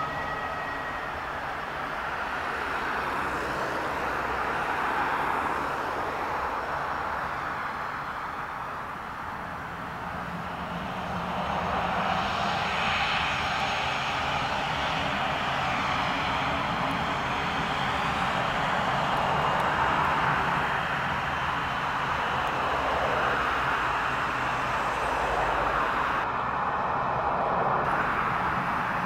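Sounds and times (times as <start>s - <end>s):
jet engines whining: 0.0s - 26.3s.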